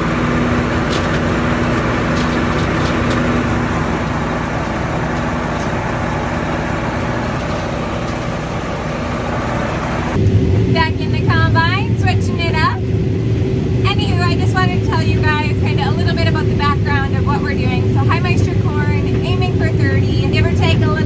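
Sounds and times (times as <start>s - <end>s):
combine harvester engine hum: 0.0s - 21.0s.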